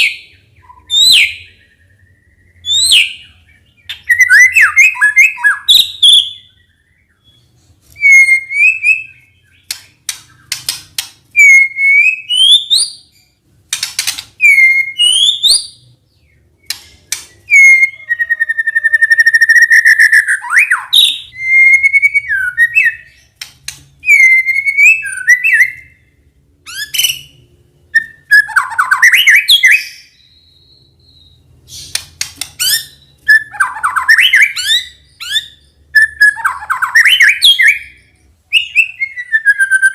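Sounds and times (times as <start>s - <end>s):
songbird whistling: 0.0s - 10.6s, 11.4s - 13.3s, 14.4s - 39.9s.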